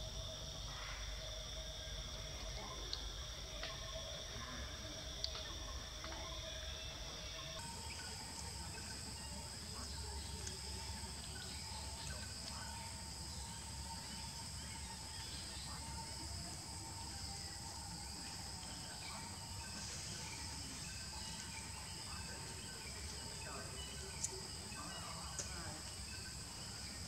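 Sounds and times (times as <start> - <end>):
faint chirps: 0.0 - 27.0
insects droning: 0.0 - 27.0.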